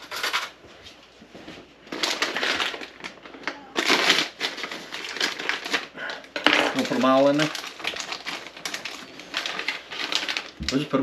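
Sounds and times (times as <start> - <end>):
plastic pouch crinkling: 1.9 - 11.0.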